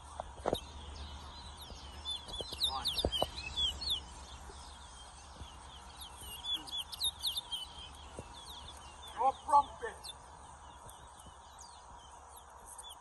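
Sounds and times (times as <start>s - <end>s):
finches chirping: 0.1s - 13.0s.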